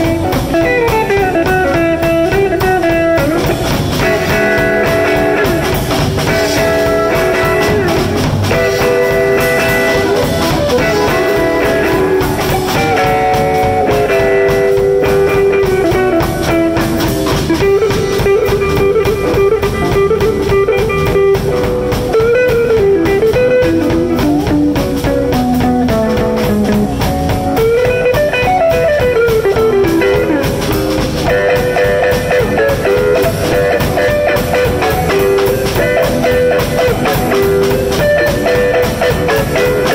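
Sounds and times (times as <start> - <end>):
bending guitar lead notes: 0.0 - 39.9
electric blues band playing: 0.0 - 39.9.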